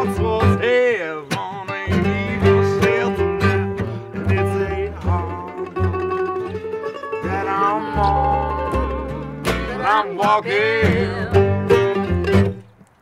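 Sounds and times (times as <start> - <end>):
person singing: 0.0 - 6.1, 7.1 - 11.7
upright bass: 0.0 - 12.8
acoustic guitar picked: 0.0 - 12.9
mandolin: 0.0 - 12.9.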